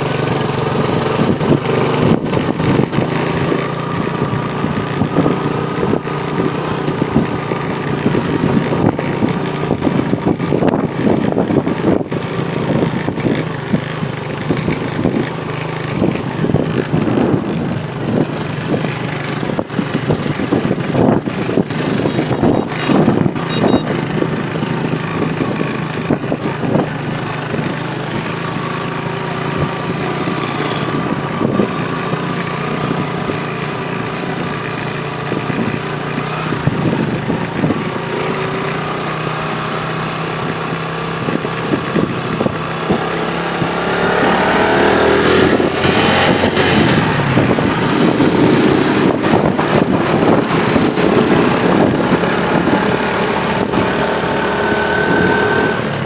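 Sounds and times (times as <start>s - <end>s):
knocks and jolts on dirt road: 0.0s - 56.0s
motorcycle engine running: 0.0s - 56.0s.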